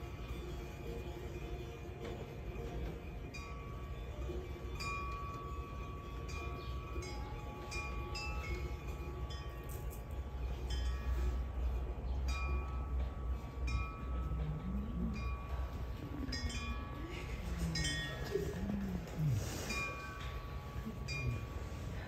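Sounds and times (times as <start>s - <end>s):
low wavering sliding tone: 2.9s - 22.0s.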